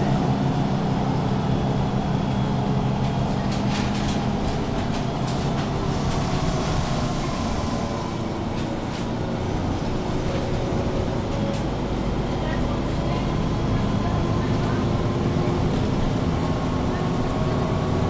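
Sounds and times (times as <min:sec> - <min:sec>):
bus engine humming: 0:00.0 - 0:18.0.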